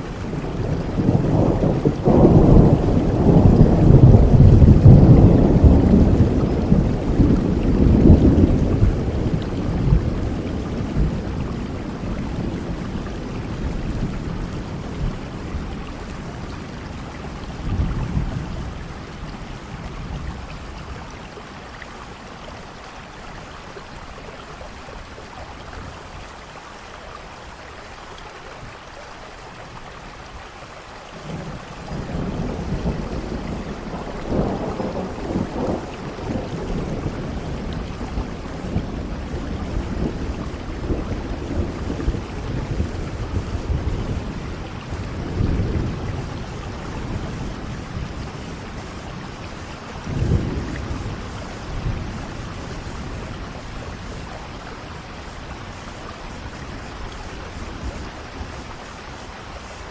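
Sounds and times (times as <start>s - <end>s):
thunder rumbling: 0.0s - 22.8s, 31.2s - 59.9s
steady rain falling: 0.0s - 59.9s.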